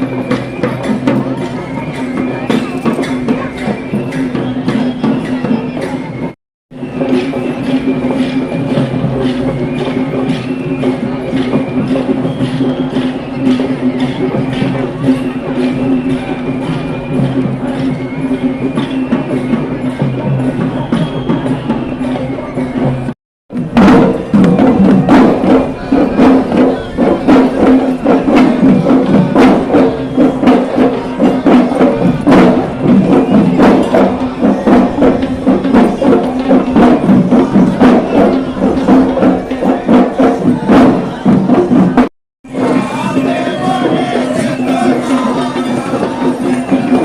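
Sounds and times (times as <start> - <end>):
traditional drums beaten fast: 0.0 - 47.0.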